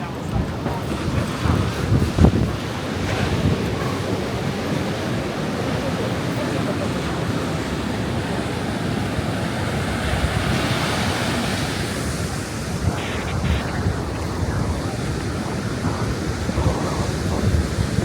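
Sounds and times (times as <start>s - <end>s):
surf breaking: 0.0s - 18.0s
wind buffeting microphone: 0.0s - 18.0s.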